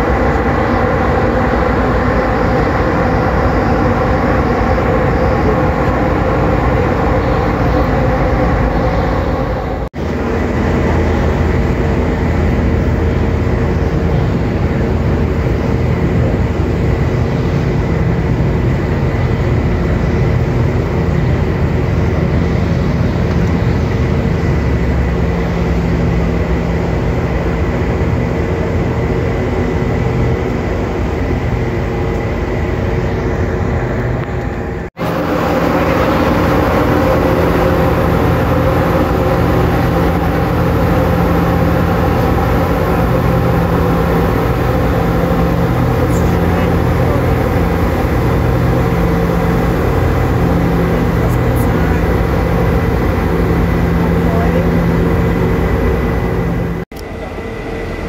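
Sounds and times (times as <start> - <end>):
ship diesel engines droning: 0.0 - 58.0.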